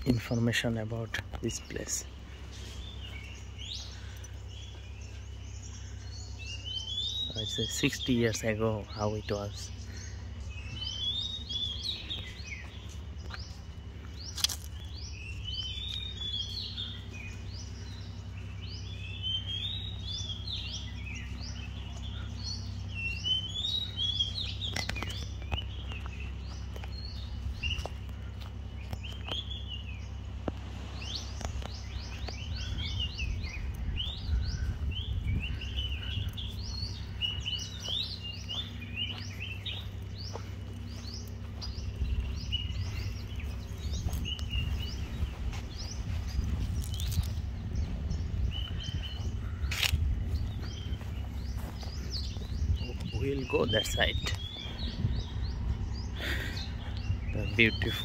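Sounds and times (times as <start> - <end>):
birds chirping and calling: 0.0 - 58.0
steady low hum: 0.0 - 58.0.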